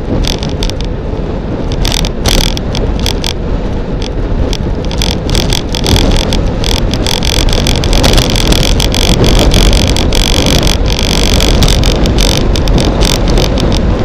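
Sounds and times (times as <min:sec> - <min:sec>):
bike ride rumble: 0:00.0 - 0:14.0
wind rushing over microphone: 0:00.0 - 0:14.0
short crackles: 0:00.1 - 0:00.9, 0:01.6 - 0:14.0.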